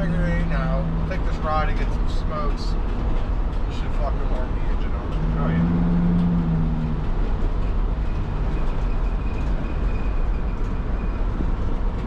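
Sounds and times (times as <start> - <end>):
van road and engine rumble: 0.0 - 12.0.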